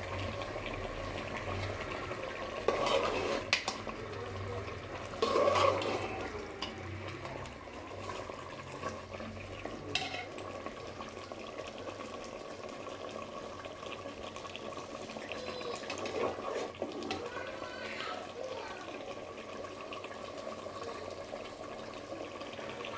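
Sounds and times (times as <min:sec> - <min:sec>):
running water: 0:00.0 - 0:22.9.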